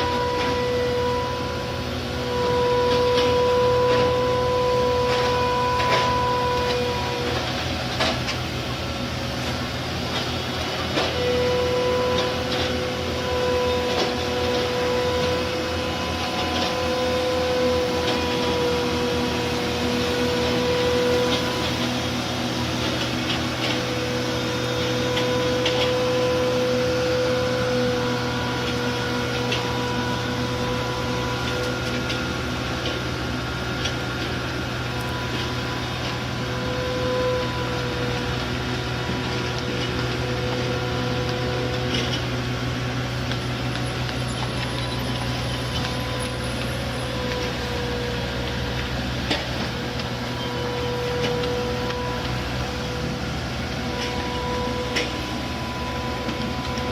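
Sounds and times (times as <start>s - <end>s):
machine hum with high whine: 0.0s - 56.9s.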